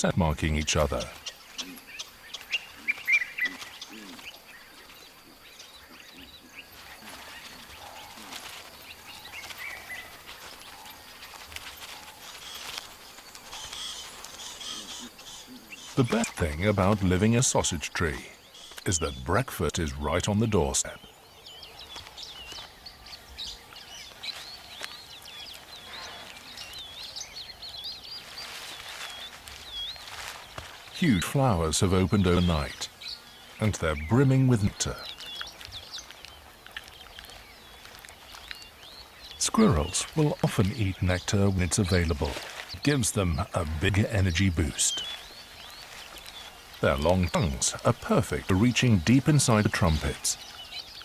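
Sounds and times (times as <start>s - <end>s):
birds chirping: 0.0s - 51.0s
bush ambience: 0.0s - 51.0s.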